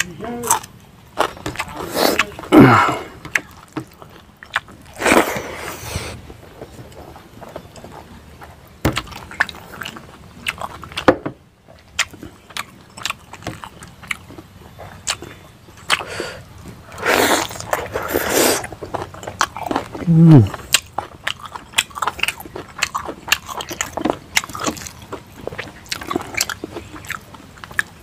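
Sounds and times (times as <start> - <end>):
wet chewing and lip smacks: 3.3 - 5.4, 6.2 - 11.1, 11.7 - 28.0.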